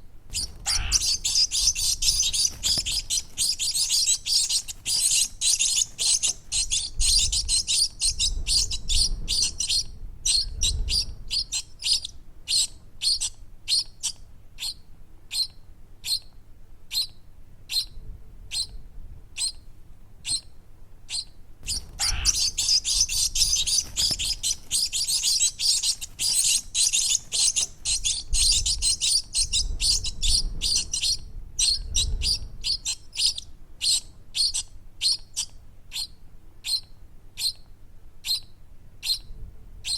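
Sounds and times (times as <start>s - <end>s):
baby birds chirping: 0.3s - 16.3s, 16.9s - 17.9s, 18.5s - 18.7s, 20.2s - 20.5s, 21.1s - 37.6s, 38.2s - 39.9s.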